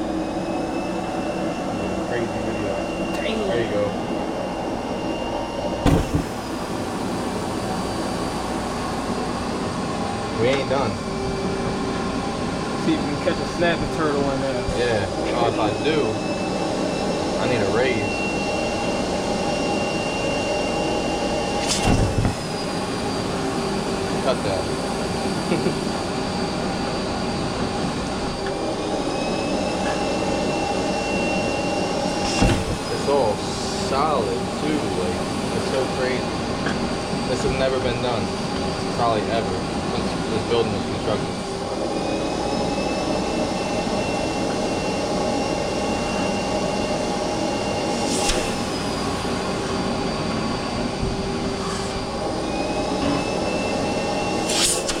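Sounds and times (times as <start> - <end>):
vacuum motor whining: 0.0 - 55.0.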